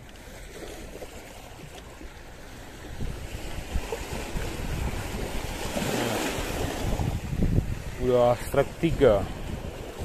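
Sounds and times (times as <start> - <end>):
sea waves washing over rocks: 0.0 - 10.0
wind buffeting microphone: 1.6 - 10.0.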